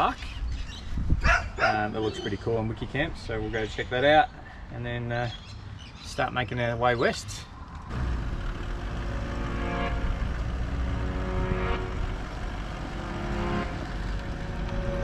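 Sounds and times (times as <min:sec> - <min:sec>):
vehicle rumble: 0:01.9 - 0:15.0.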